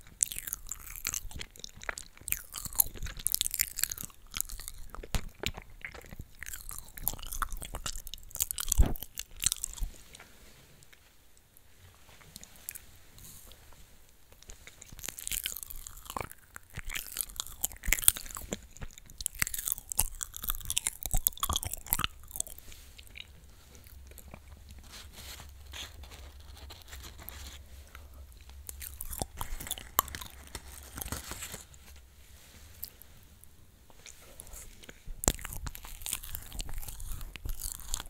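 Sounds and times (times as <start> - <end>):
crunching wafer: 0.0 - 10.3, 14.3 - 32.1, 33.9 - 38.0
soft chewing: 0.0 - 38.0.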